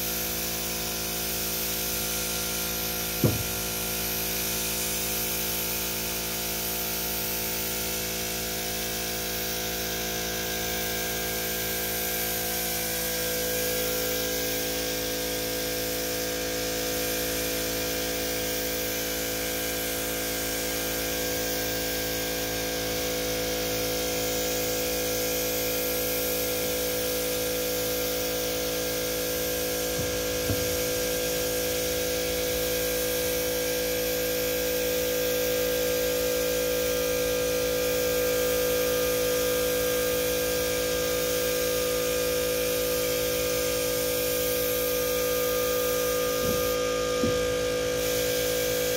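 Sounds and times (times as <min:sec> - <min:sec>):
air compressor hum: 0:00.0 - 0:48.9
paint spray gun hissing: 0:00.0 - 0:48.9.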